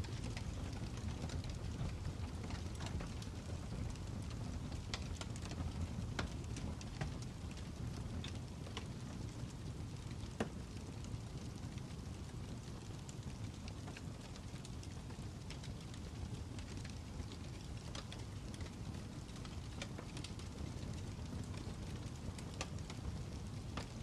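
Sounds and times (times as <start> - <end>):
fire crackling: 0.0 - 24.0.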